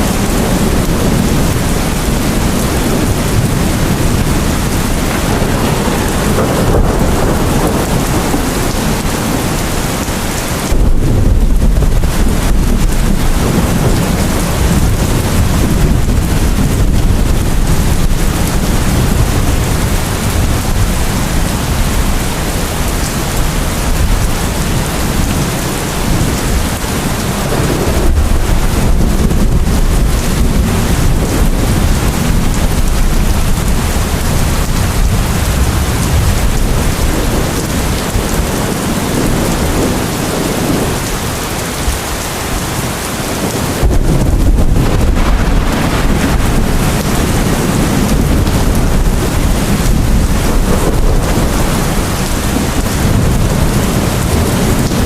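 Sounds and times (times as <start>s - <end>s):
rain falling: 0.0s - 55.0s
thunder rumbling: 0.0s - 55.0s.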